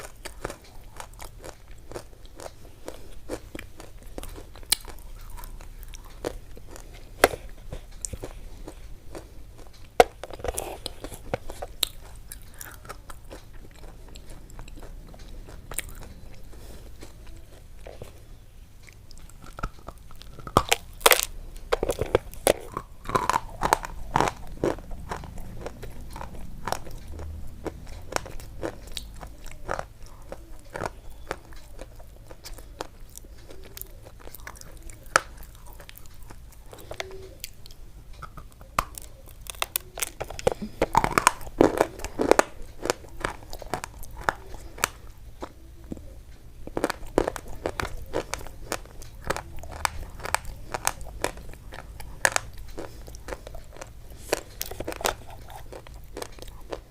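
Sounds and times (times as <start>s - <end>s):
crunching and chewing: 0.0s - 56.9s
low steady hum: 0.0s - 56.9s.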